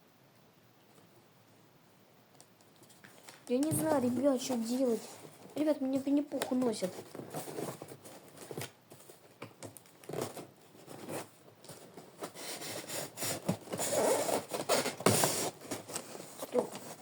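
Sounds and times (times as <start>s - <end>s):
cardboard and packing rustling: 2.8s - 17.0s.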